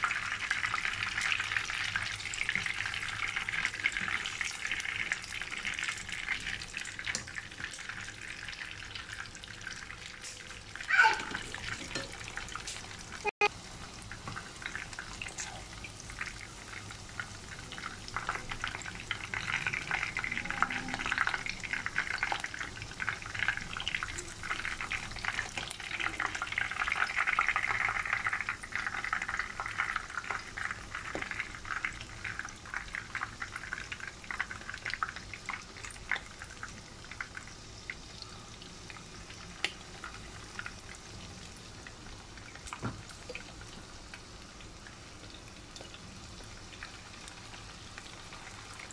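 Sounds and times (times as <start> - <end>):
meat sizzling in hot oil: 0.0 - 48.9.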